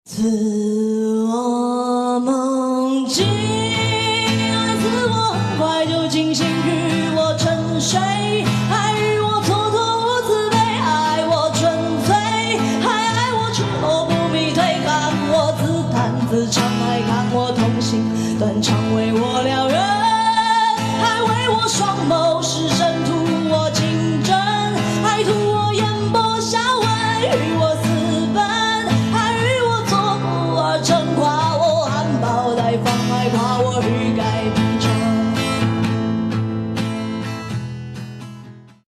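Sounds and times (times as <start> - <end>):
woman singing a pop ballad: 0.1 - 36.0
guitar strumming: 3.2 - 38.8.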